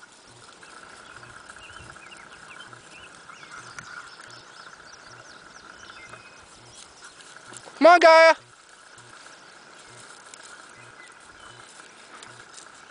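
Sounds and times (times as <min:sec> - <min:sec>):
steady high drone: 0:00.0 - 0:12.9
faint bird chirps: 0:00.4 - 0:07.8, 0:08.6 - 0:12.9.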